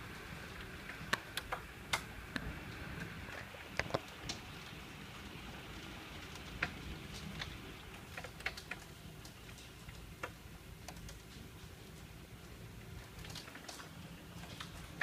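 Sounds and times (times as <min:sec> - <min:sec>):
heavy rain hiss: 0:00.0 - 0:15.0
hailstones clicking on hard surfaces: 0:00.2 - 0:15.0.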